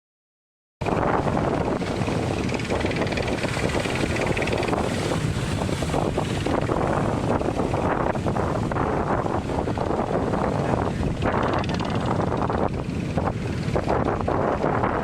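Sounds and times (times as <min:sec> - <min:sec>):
sea wash: 0:00.8 - 0:15.0
wind buffeting microphone: 0:00.8 - 0:15.0.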